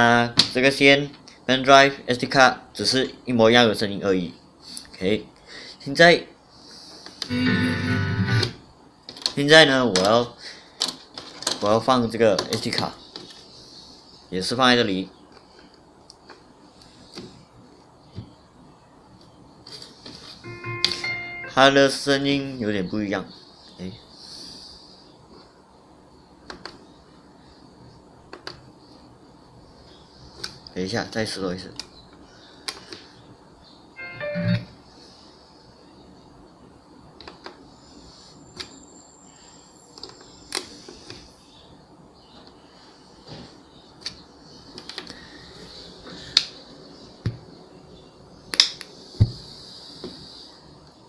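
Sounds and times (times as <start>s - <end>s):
faint speaker hiss: 0.0s - 51.0s.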